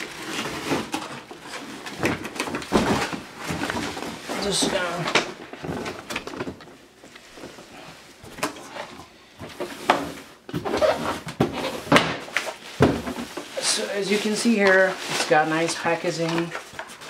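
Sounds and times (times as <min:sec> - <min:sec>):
plastic wrapping rustling: 0:00.0 - 0:17.0.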